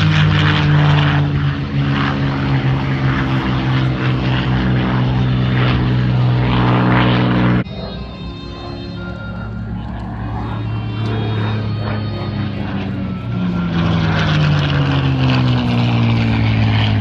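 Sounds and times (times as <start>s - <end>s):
propeller airplane flying by: 0.0s - 17.0s.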